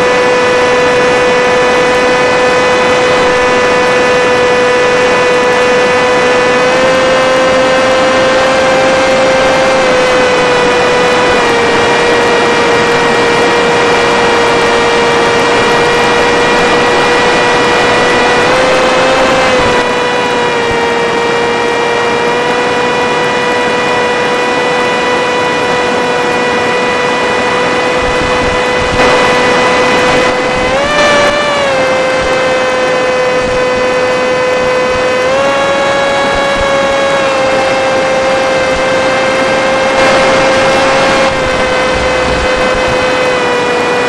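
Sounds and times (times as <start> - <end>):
electric motor and propeller whine: 0.0 - 44.0
rushing wind: 0.0 - 44.0.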